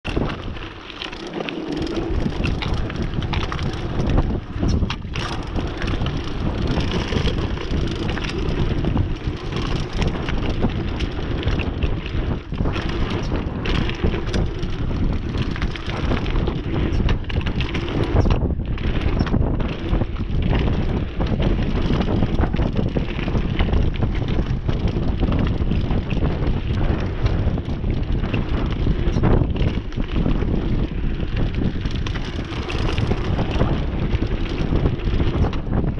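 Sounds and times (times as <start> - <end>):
bike rattling over bumps: 0.0 - 35.9
wind buffeting microphone: 0.0 - 35.9.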